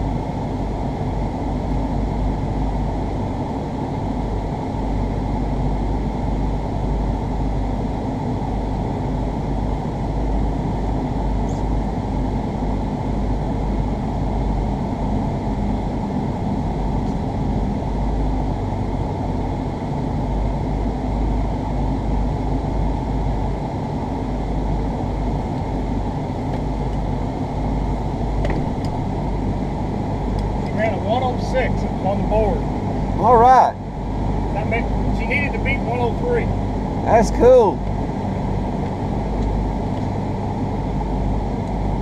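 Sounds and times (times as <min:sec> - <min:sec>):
low vehicle rumble: 0:00.0 - 0:42.0.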